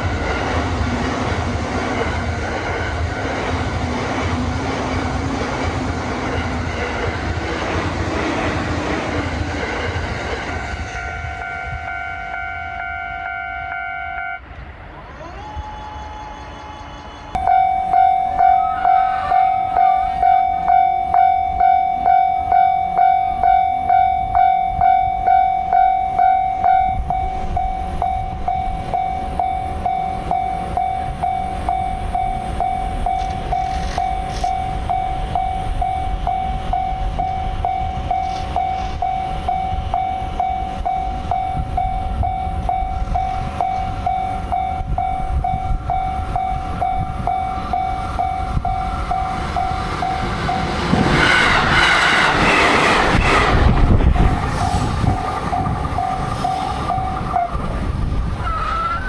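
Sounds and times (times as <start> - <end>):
level-crossing warning bell: 0.0 - 14.5, 15.1 - 51.0, 53.2 - 59.0
train rumbling past: 0.0 - 59.0.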